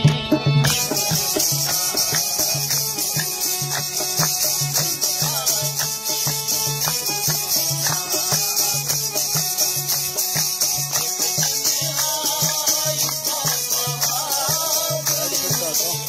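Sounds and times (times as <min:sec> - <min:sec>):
hand clapping: 0:00.0 - 0:16.0
hand drum beat: 0:00.0 - 0:16.0
harmonium melody: 0:00.0 - 0:16.0
man singing: 0:00.7 - 0:03.8, 0:04.5 - 0:06.9, 0:07.5 - 0:09.9, 0:10.7 - 0:16.0.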